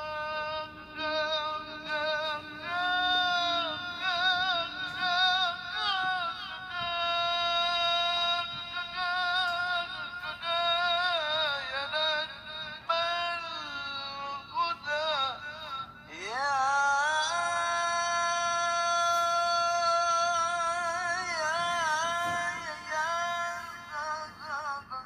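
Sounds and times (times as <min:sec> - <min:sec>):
man reciting melodically into microphone: 0:00.0 - 0:25.0.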